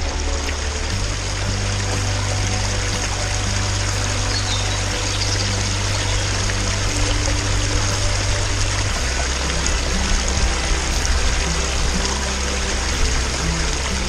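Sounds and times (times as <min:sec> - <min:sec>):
soft background music: 0:00.0 - 0:14.0
stream water rushing: 0:00.0 - 0:14.0.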